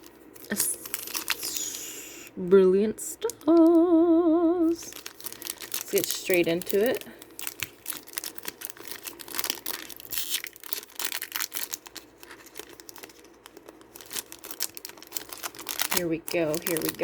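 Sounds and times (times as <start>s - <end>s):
foil wrapper tearing and crinkling: 0.0s - 1.9s, 4.7s - 17.0s.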